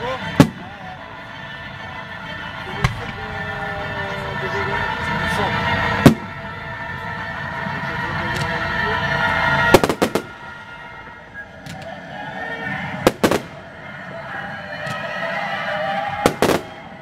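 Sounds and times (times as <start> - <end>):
fireworks bursting: 0.2 - 1.8, 2.4 - 17.0.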